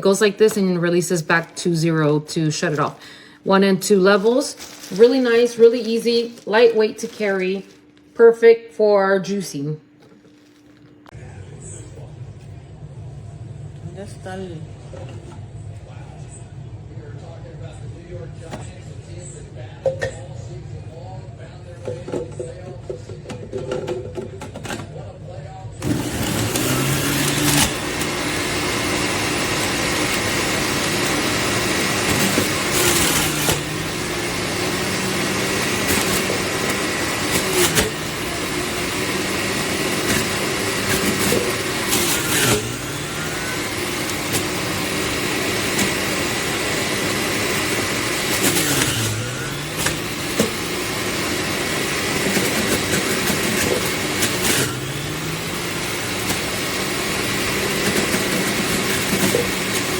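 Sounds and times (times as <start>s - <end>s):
juicer motor running: 0.0s - 8.9s, 9.9s - 11.4s, 12.0s - 59.9s.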